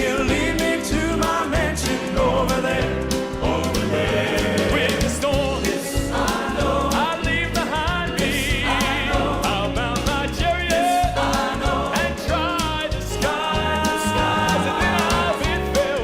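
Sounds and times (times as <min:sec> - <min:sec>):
instrumental backing with bass: 0:00.0 - 0:16.0
male vocal quartet singing: 0:00.0 - 0:16.0.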